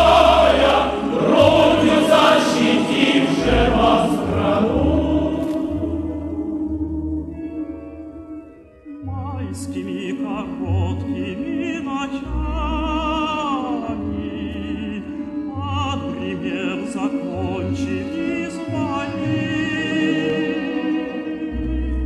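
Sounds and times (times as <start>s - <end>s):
classical singer with vibrato: 0.0s - 8.2s, 8.8s - 22.0s
orchestral accompaniment: 0.0s - 22.0s.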